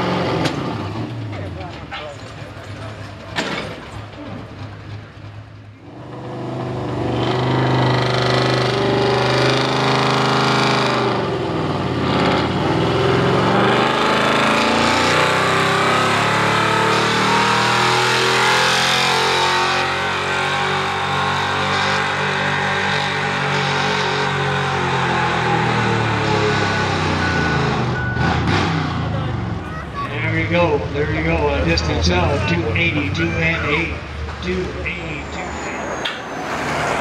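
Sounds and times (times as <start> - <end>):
pickup truck engine at full throttle: 0.0 - 35.0.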